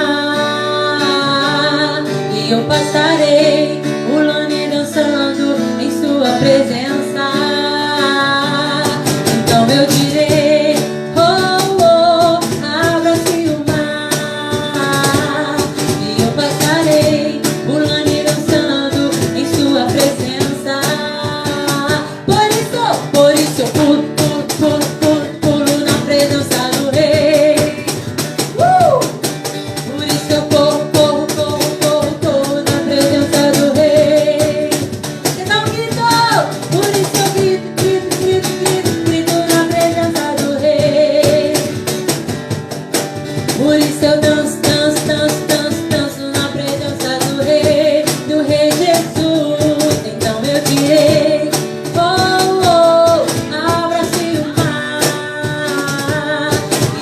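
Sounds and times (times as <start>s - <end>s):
instrumental accompaniment: 0.0s - 57.0s
fast percussive beat: 8.8s - 57.0s.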